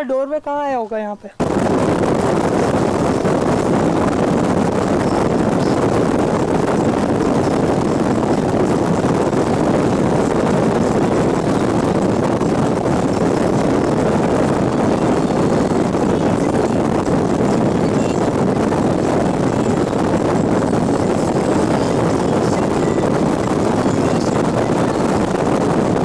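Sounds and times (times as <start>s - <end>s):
car road and wind noise: 1.4s - 26.0s.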